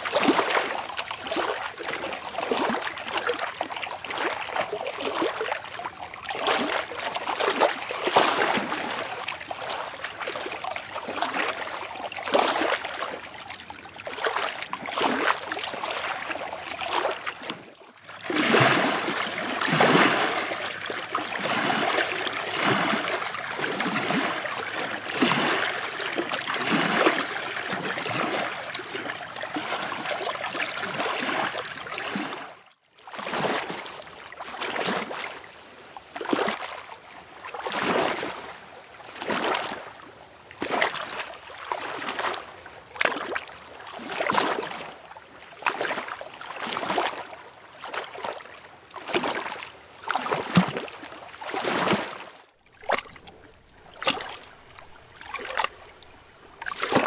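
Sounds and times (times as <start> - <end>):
rushing water: 0.0 - 57.0
small waves lapping: 0.0 - 57.0.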